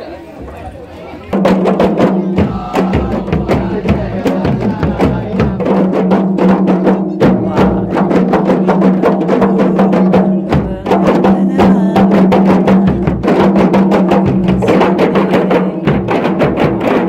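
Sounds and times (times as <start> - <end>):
frame drums played with palms: 1.3 - 17.0
large wooden barrel drum: 1.3 - 17.0.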